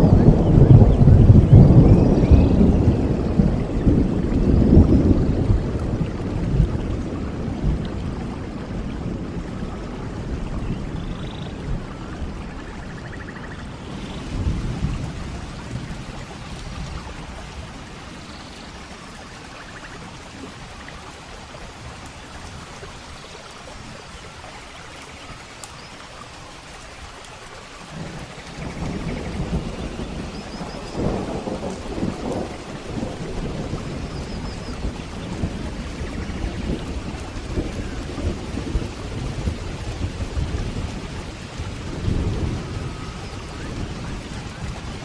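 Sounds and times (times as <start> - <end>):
thunder rumbling: 0.0 - 12.7, 13.6 - 45.0
steady rain: 0.0 - 45.0.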